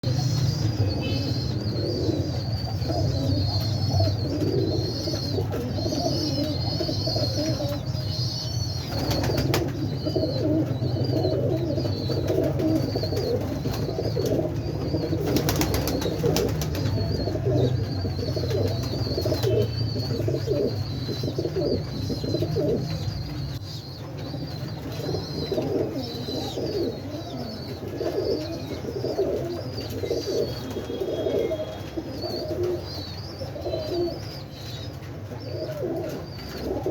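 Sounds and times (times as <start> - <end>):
pigeons cooing: 0.0 - 36.9
small birds chirping: 0.0 - 36.9.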